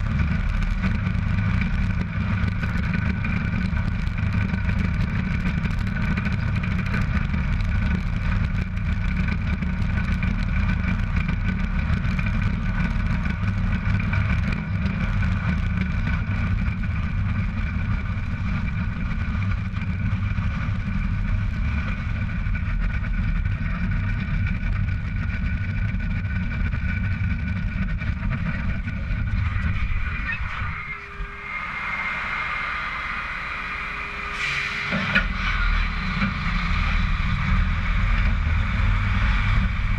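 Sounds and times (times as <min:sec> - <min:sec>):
steady whine: 0:00.0 - 0:39.9
truck tyre and road rumble: 0:00.0 - 0:39.9
wind: 0:00.0 - 0:39.9.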